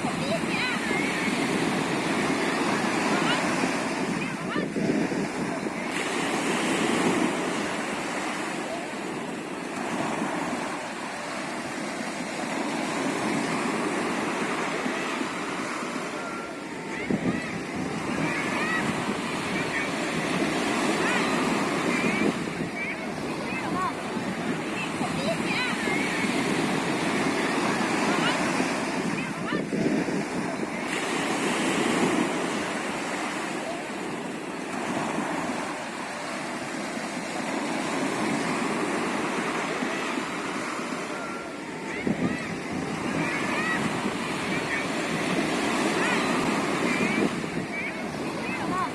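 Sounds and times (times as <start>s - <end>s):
sea waves washing onto shore: 0.0s - 48.9s.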